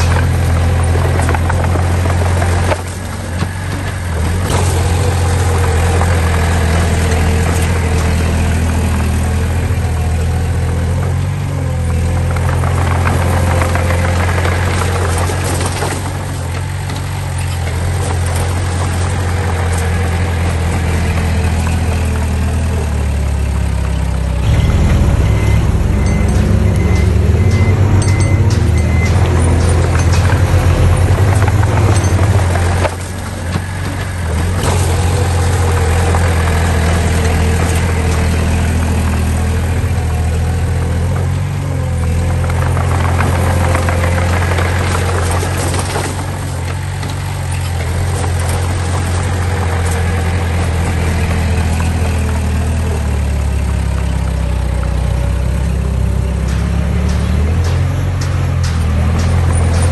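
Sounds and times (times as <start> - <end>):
heavy machinery diesel engines: 0.0 - 59.9.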